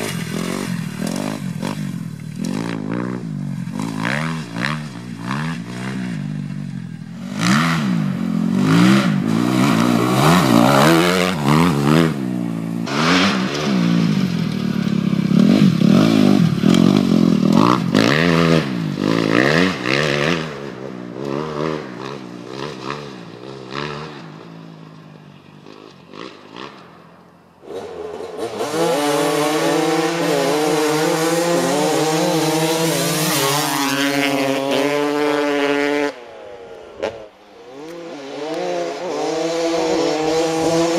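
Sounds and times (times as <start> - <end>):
dirt bike engine revving: 0.0 - 24.5, 27.6 - 40.9.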